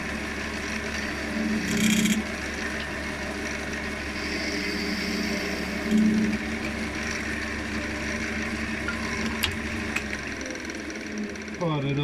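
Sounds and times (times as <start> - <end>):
wood lathe running: 0.0 - 12.0.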